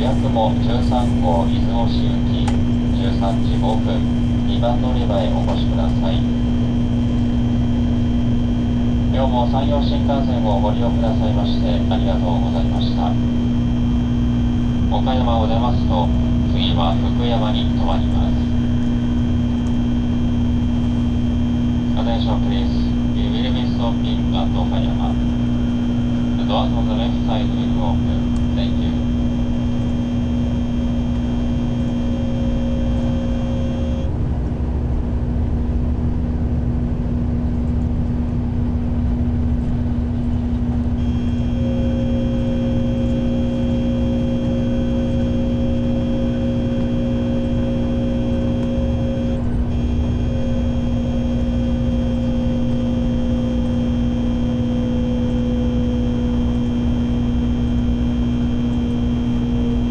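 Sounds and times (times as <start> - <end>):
high whining tones: 0.0 - 34.4, 40.6 - 59.9
electric hum and motor whine: 0.0 - 59.9
train low rumble: 0.0 - 59.9.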